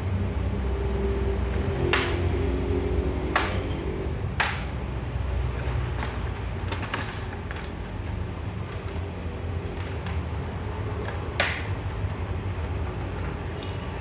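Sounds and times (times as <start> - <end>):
cash cassette clicks and knocks: 1.5 - 2.5, 3.2 - 14.0.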